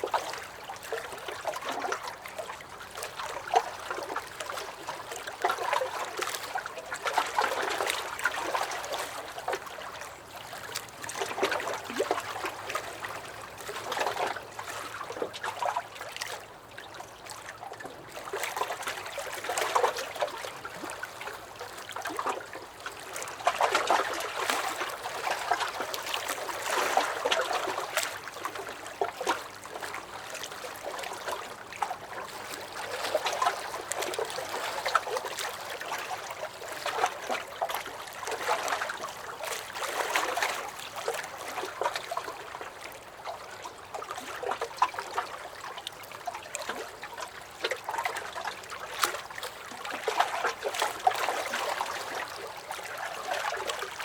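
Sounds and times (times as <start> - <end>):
waves lapping against a dock: 0.0 - 54.0.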